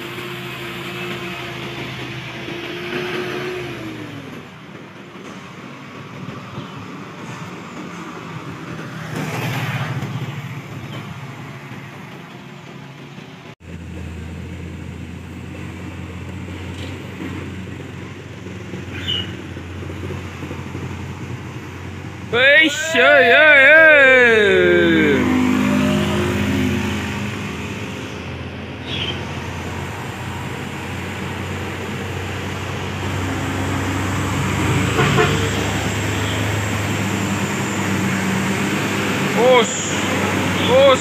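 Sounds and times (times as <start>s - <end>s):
trucks passing on road: 0.0s - 41.0s.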